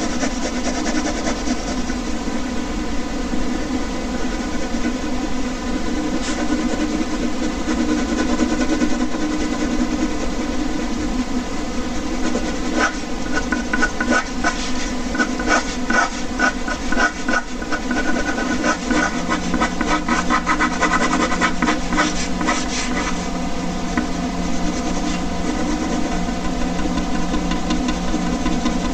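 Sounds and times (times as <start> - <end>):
pen scratching on paper: 0.0 - 2.0, 6.0 - 11.1, 12.0 - 23.3, 23.9 - 28.9
air conditioner humming: 0.0 - 28.9.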